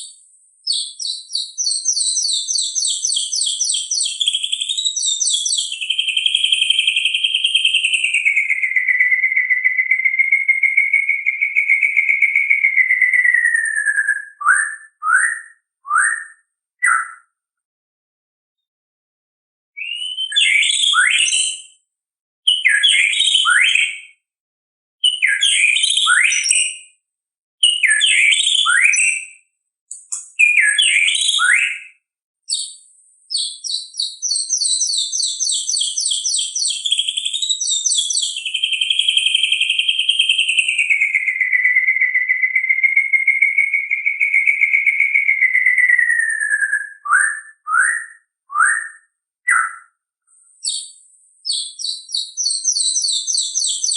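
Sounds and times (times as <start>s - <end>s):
long wavering bird whistle: 0.0s - 17.4s, 19.8s - 21.8s, 22.5s - 24.2s, 25.0s - 26.8s, 27.6s - 29.4s, 30.4s - 50.0s, 50.6s - 53.9s
bird whistled phrases: 0.7s - 17.4s, 19.8s - 21.7s, 22.5s - 24.1s, 25.0s - 26.8s, 27.6s - 29.4s, 30.2s - 50.0s, 50.6s - 53.9s.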